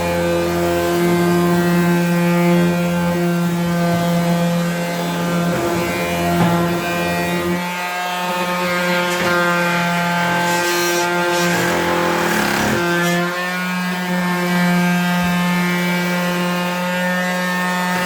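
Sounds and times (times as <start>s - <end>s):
electric sander on wood: 0.0s - 18.0s.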